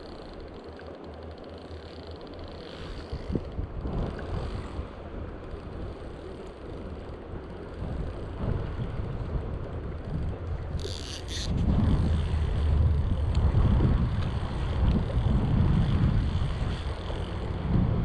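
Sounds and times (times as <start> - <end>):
wind on microphone: 2.5 - 18.0.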